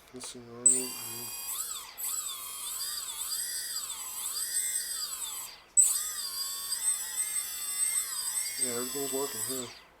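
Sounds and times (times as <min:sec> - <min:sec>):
drone motors whining: 0:00.7 - 0:09.9.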